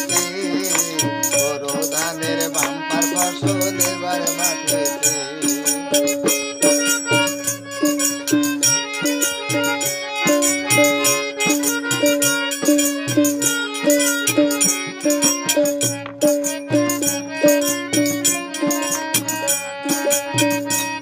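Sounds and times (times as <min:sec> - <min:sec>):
folk instrumental melody: 0:00.0 - 0:21.0
shaker and percussion beat: 0:00.0 - 0:21.0.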